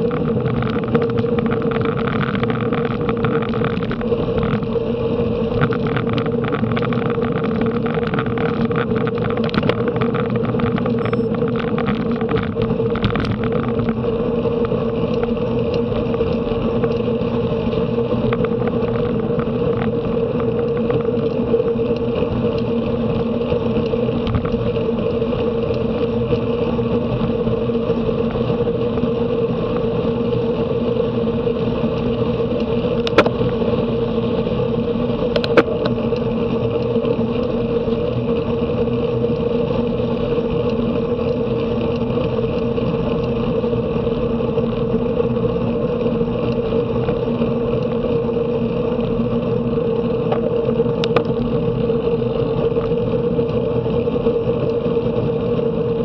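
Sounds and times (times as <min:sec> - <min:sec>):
even hum: 0:00.0 - 0:56.0
wind and road noise: 0:00.0 - 0:56.0.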